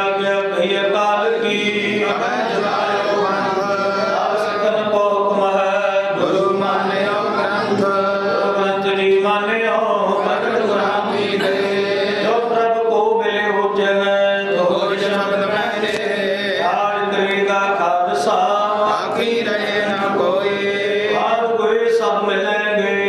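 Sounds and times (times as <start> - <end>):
congregation chanting: 0.0 - 23.0.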